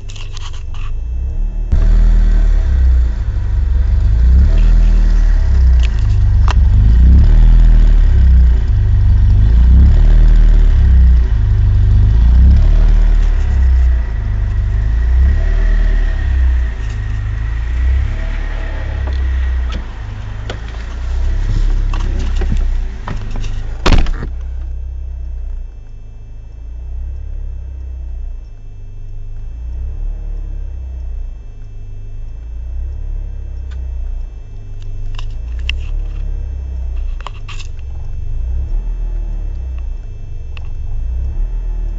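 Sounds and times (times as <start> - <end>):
car engine idling roughly: 0.0 - 41.9.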